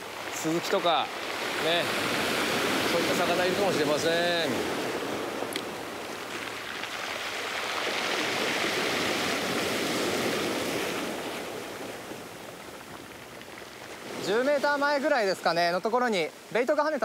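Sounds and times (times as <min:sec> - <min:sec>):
sea waves breaking on beach: 0:00.0 - 0:17.0.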